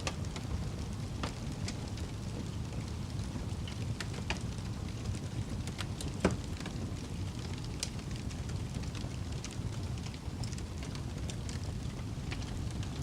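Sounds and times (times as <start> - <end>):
campfire flames rumbling: 0.0 - 13.0
fire crackling and popping: 0.0 - 13.0.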